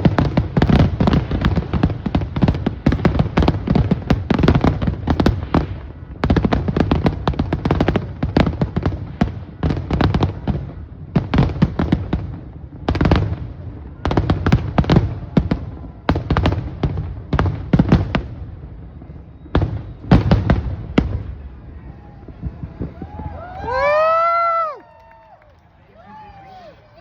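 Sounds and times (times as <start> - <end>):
fireworks bangs: 0.0 - 25.4.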